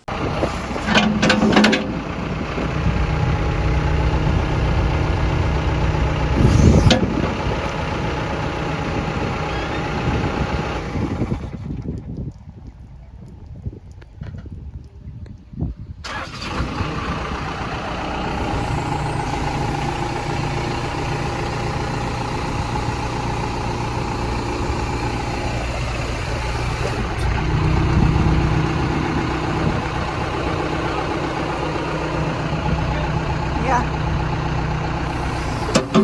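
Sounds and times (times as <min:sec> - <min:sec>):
backhoe engine running: 0:00.0 - 0:12.4, 0:16.0 - 0:36.0.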